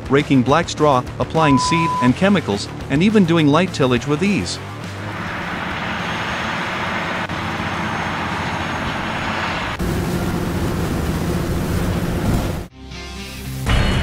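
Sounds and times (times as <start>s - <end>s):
deep tractor engine hum: 1.0s - 12.7s
tractor pulling harrow: 1.3s - 12.6s.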